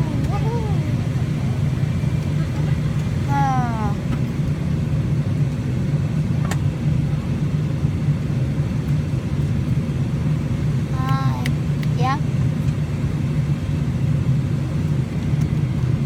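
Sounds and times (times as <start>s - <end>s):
airliner cabin engine hum: 0.0s - 16.0s.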